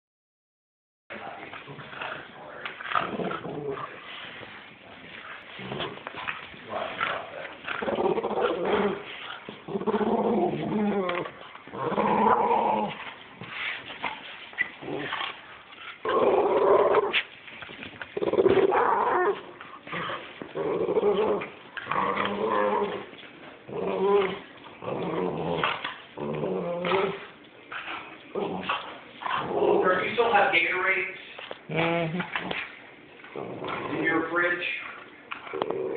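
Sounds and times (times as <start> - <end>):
dogs play growling: 1.1 - 35.9.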